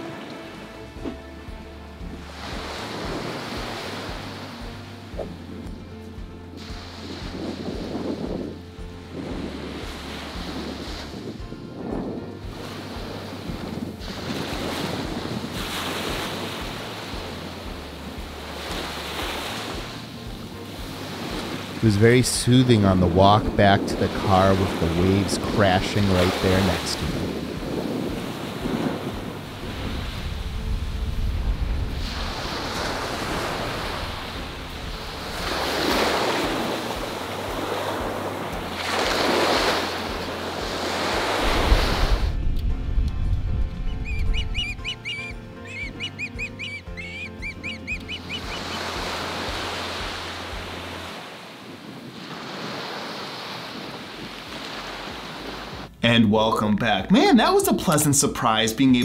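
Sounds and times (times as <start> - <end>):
small waves breaking on beach: 0.0 - 1.2, 2.1 - 5.4, 6.6 - 42.5, 48.3 - 55.9
wind rumble on microphone: 0.0 - 21.9, 26.3 - 56.0.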